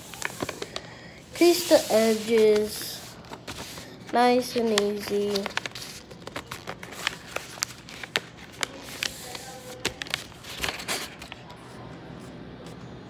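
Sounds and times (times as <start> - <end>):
paper folding and crinkling: 0.0 - 11.8.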